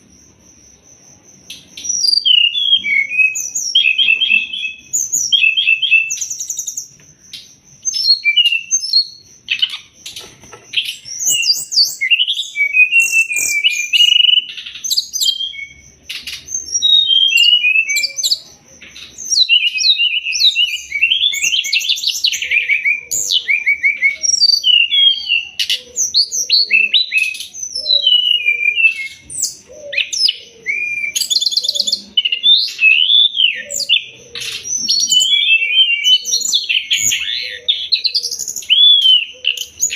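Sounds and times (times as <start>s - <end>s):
bird singing chirps and trills: 1.4s - 39.9s.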